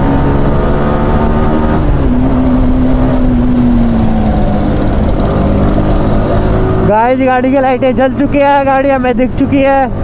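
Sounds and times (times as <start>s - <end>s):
motorcycle engine at highway speed: 0.0s - 10.0s.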